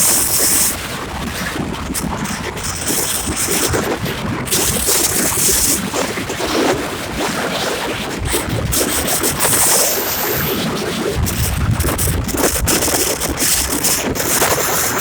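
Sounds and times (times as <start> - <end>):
hissing wash of water: 0.0 - 15.0
strong wind buffeting microphone: 0.0 - 15.0.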